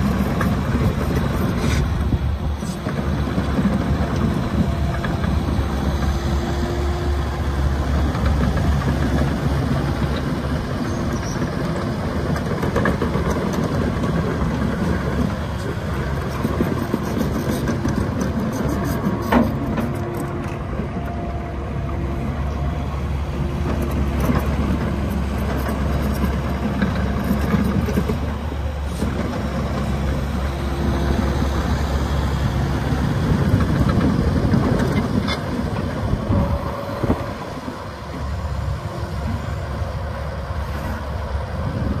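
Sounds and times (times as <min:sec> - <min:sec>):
excavator diesel engine under load: 0:00.0 - 0:42.0.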